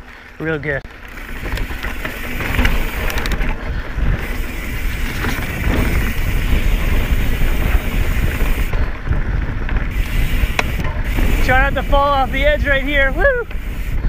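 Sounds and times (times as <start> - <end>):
bike rattles and clicks: 0.0 - 14.0
tyres rolling on dirt trail: 0.0 - 14.0
wind rush over microphone: 1.1 - 14.0.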